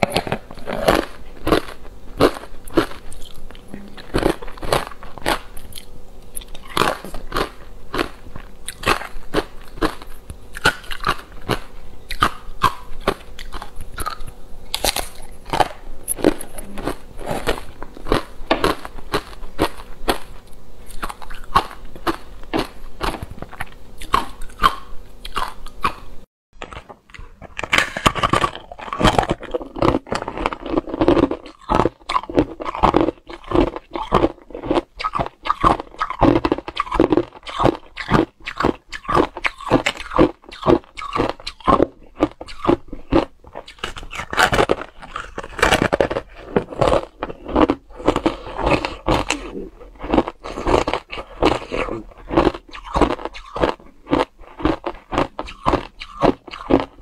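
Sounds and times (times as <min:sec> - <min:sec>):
ice crunching being chewed: 0:00.0 - 0:26.0, 0:26.6 - 0:57.0.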